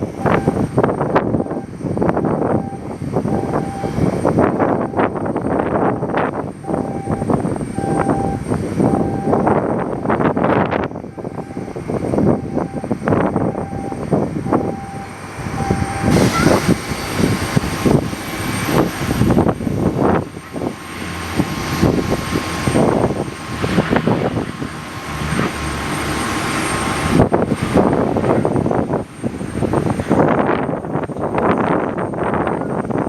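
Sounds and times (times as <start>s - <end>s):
aircraft engine running: 0.0s - 33.0s
wind buffeting microphone: 0.0s - 33.0s.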